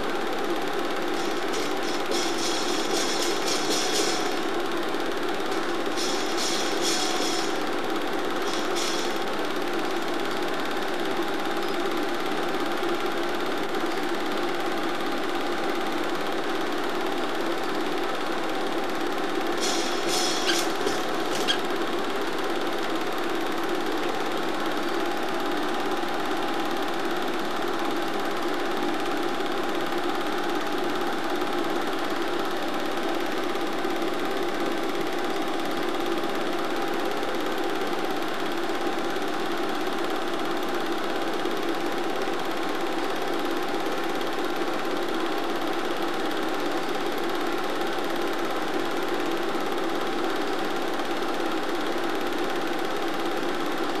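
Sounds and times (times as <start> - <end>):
film projector whirring and clatter: 0.0 - 54.0.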